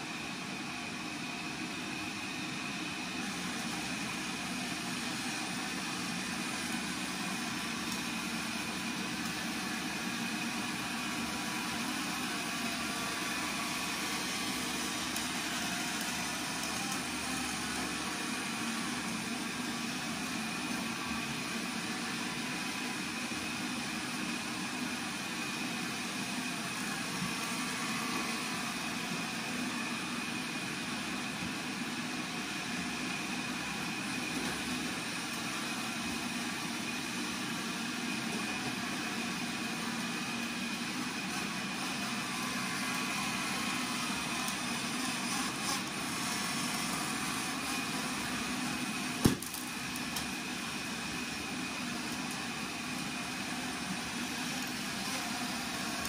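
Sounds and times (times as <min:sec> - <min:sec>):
robot vacuums whirring: 0:00.0 - 0:56.0.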